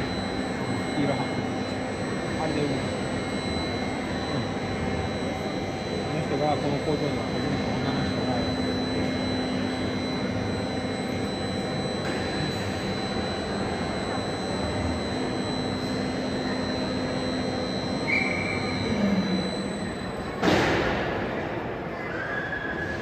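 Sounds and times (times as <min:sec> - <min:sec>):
high machine whine: 0:00.0 - 0:23.0.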